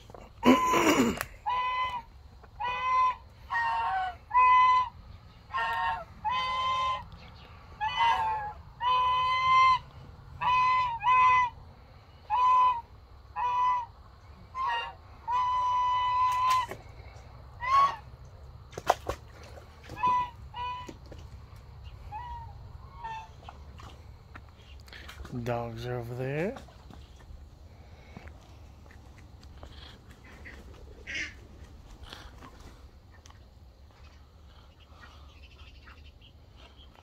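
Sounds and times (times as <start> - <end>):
geese honking: 0.0 - 18.1, 19.8 - 25.2, 25.8 - 37.0.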